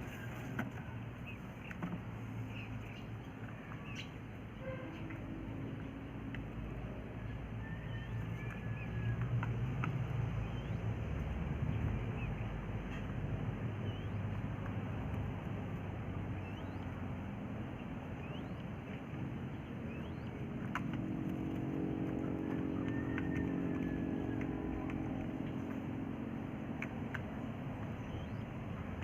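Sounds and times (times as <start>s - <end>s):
low motor hum: 0.0s - 29.0s
quail chicks peeping: 0.0s - 29.0s
steady background noise: 0.0s - 29.0s.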